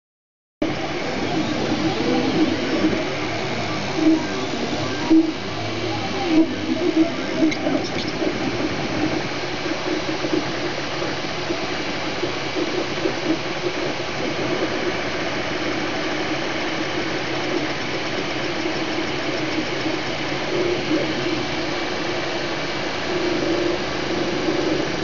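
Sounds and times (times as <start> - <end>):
printer motors and fans whirring: 0.6 - 25.0.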